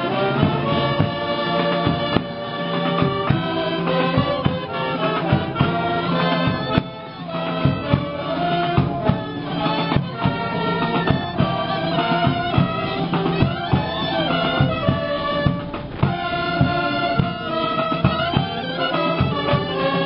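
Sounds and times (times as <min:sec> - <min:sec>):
percussion strokes: 0:00.0 - 0:20.0
reedy shawm melody: 0:00.0 - 0:20.0
street band playing a march: 0:00.0 - 0:20.0.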